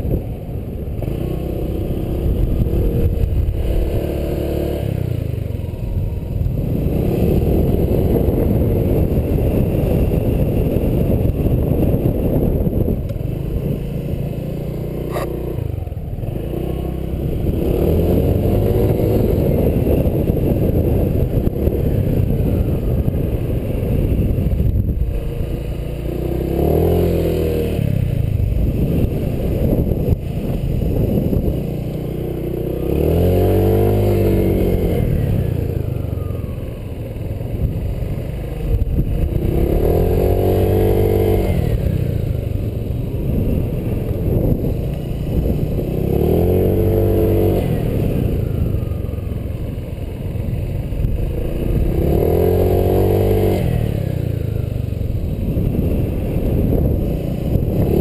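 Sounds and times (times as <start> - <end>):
scooter engine revving: 0.0 - 58.0.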